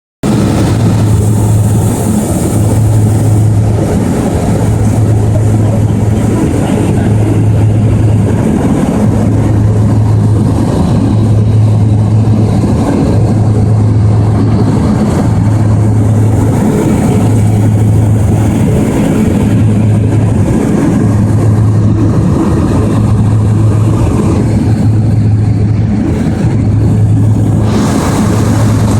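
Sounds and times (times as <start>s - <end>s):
plane engine and propeller droning: 0.2s - 28.9s.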